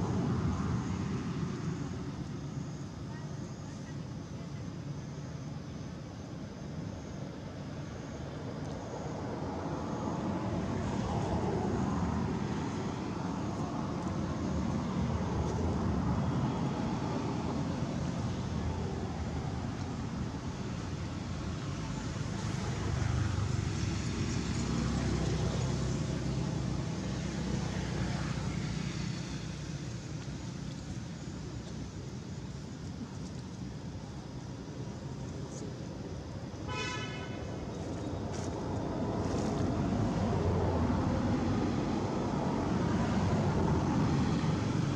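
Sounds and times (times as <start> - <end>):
road traffic rumble: 0.0 - 44.9.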